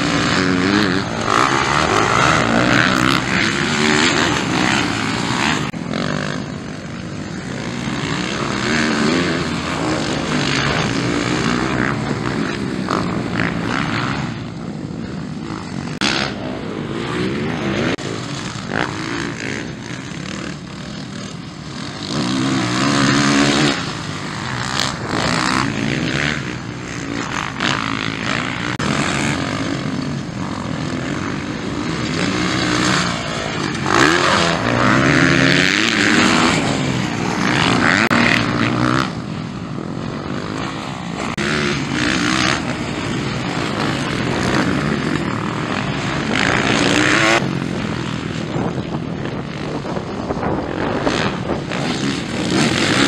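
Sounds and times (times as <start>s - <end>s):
motocross bikes revving past: 0.0s - 53.0s.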